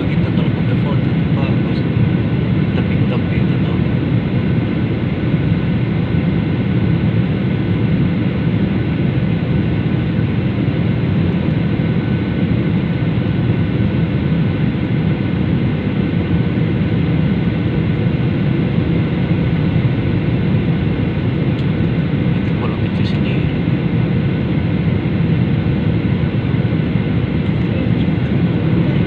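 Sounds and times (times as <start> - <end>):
airliner cabin drone: 0.0 - 29.0
faint steady whines: 0.0 - 29.0.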